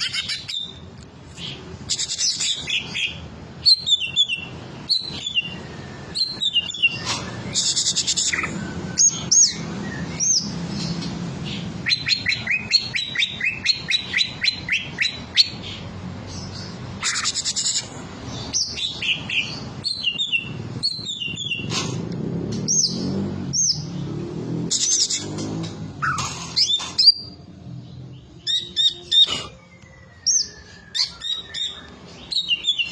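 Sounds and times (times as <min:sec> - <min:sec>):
bird singing varied phrases: 0:01.9 - 0:21.7, 0:24.8 - 0:32.9.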